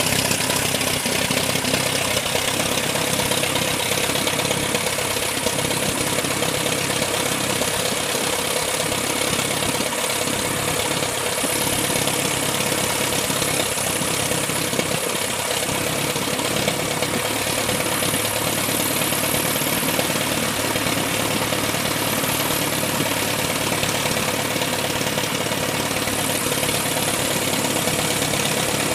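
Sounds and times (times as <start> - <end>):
aircraft piston engine running: 0.0 - 28.9.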